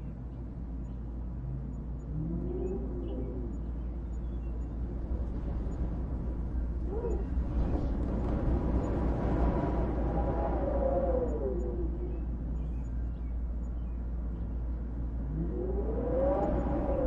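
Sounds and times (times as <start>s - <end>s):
howling wind: 0.0s - 17.0s.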